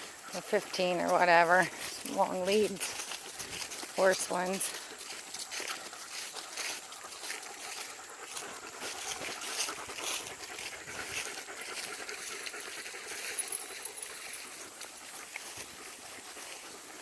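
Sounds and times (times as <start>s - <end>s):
dog panting: 0.0s - 17.0s
rustling and crackling: 0.0s - 17.0s.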